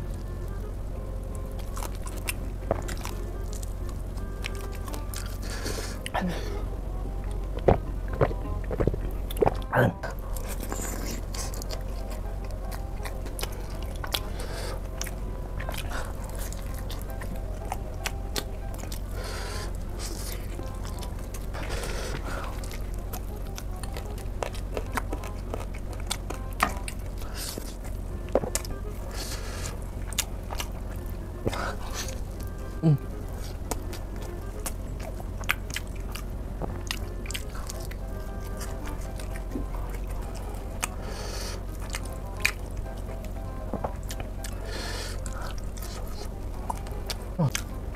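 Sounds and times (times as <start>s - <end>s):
background music: 0.0s - 47.9s
biting and chewing: 0.0s - 47.9s.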